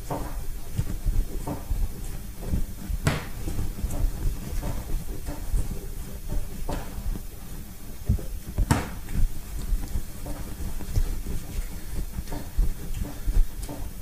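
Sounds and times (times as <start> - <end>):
dough thumping on wooden board: 0.0 - 7.4, 8.0 - 14.0.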